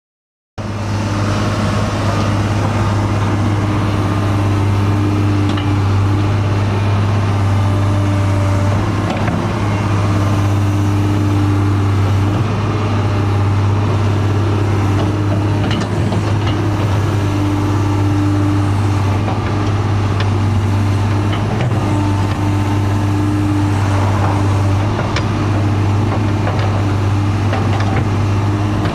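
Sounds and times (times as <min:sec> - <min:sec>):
excavator diesel engine under load: 0:00.6 - 0:28.9.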